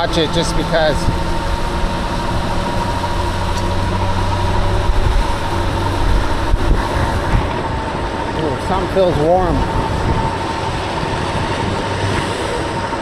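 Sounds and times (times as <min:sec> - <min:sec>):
traffic noise: 0:00.0 - 0:13.0
vehicle engine humming: 0:00.0 - 0:13.0
wind rushing over microphone: 0:00.0 - 0:13.0.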